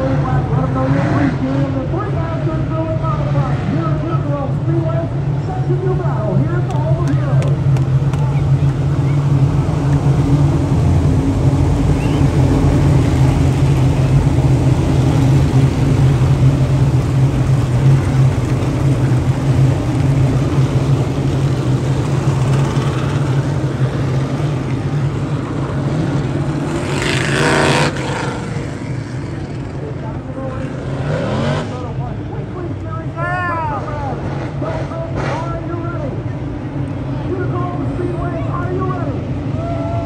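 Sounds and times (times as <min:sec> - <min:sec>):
race car engines droning: 0:00.0 - 0:40.0.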